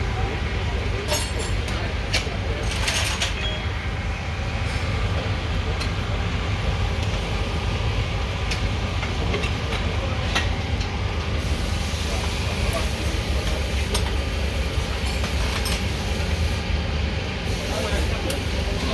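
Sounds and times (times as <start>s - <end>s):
low machine rumble: 0.0s - 18.9s.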